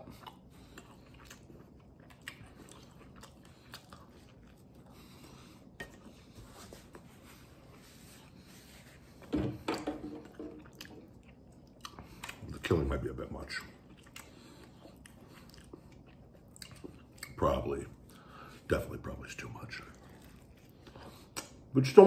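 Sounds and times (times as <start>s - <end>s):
man chewing close to microphone: 0.0s - 9.3s, 10.1s - 21.7s.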